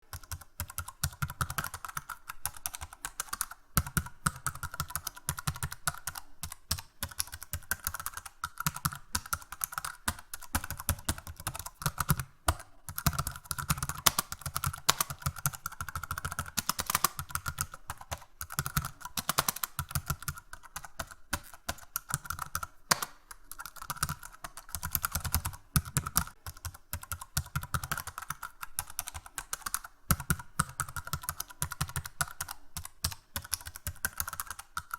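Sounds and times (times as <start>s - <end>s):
fast typing on keyboard: 0.0s - 34.9s.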